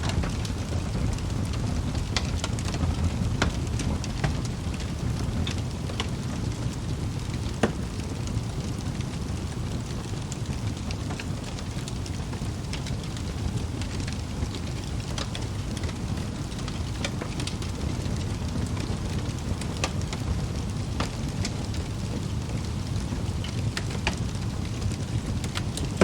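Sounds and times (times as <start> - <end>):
fire roaring: 0.0 - 26.0
logs crackling and popping: 0.0 - 26.0.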